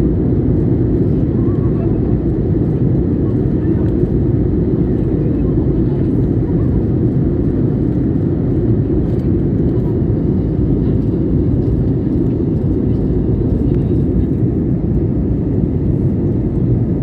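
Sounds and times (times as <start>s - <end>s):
jet engine and airflow drone: 0.0s - 17.0s.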